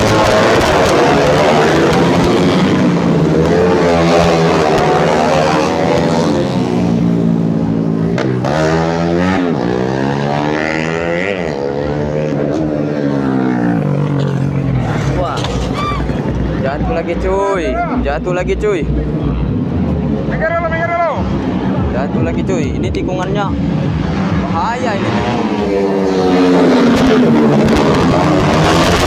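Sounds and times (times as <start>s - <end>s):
racing motorcycles at high revs: 0.0s - 20.3s, 21.2s - 29.0s.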